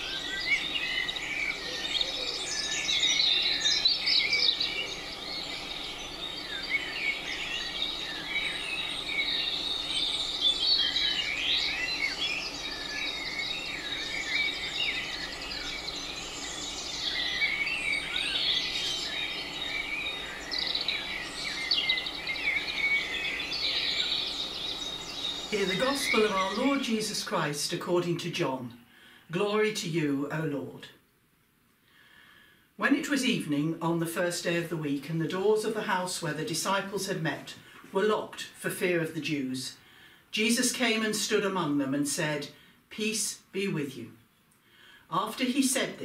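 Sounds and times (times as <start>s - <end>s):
songbirds singing: 0.0s - 31.0s, 32.3s - 46.0s
faint steady background hiss: 0.0s - 46.0s.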